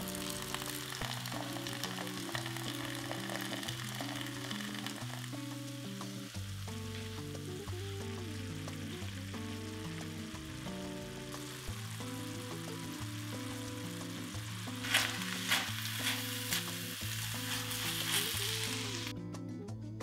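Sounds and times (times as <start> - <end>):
beer being poured: 0.0 - 19.1
food sizzling in wok: 0.0 - 19.1
background music: 0.0 - 20.0.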